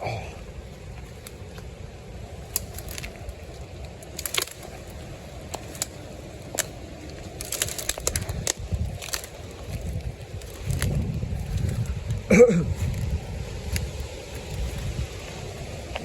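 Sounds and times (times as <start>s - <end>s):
wind rumbling on microphone: 0.0s - 16.0s
footsteps crunching through twigs: 0.7s - 16.0s.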